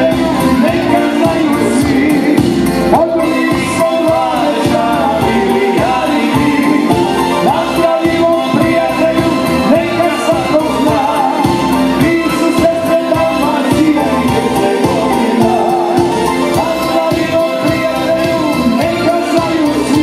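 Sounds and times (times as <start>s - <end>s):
amplified backing music with beat: 0.0s - 20.0s
man singing into a microphone: 0.0s - 20.0s.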